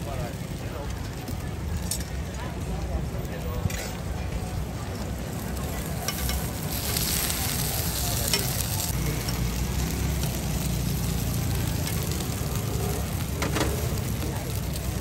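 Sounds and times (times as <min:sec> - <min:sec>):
buns sizzling in oil: 0:00.0 - 0:15.0.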